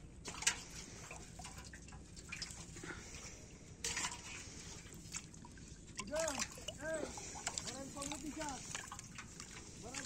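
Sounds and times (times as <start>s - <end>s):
small drips and clicks: 0.2s - 10.0s.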